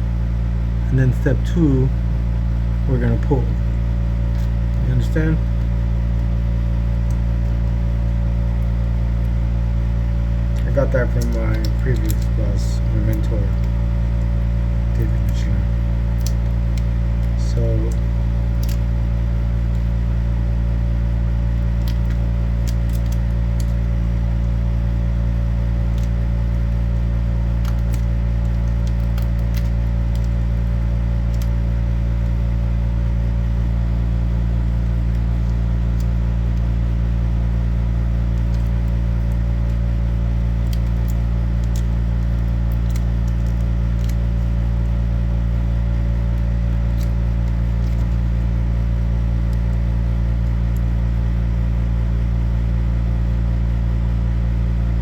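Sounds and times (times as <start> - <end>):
loud low machinery hum: 0.0 - 55.0.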